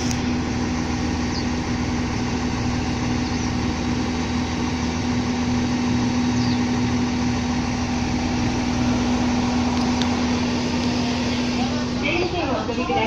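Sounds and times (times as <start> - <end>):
small birds chirping: 0.0 - 12.5
diesel railcar engine idling: 0.0 - 13.0.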